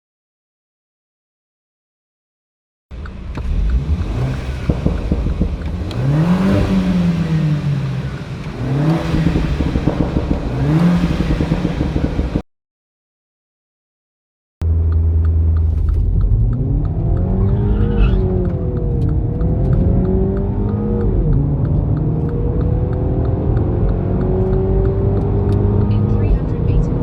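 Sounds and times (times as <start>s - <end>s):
car engine accelerating: 2.9s - 12.4s, 14.6s - 27.0s.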